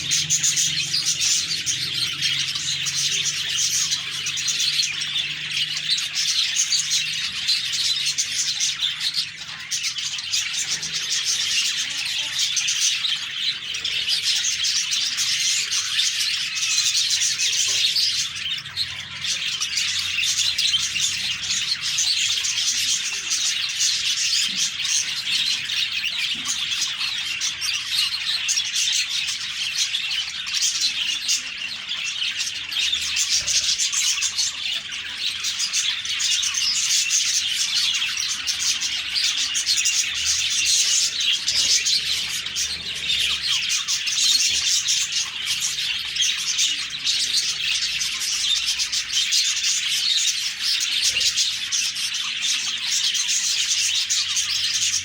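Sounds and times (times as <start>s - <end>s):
flock of budgerigars chirping: 0.0s - 55.0s.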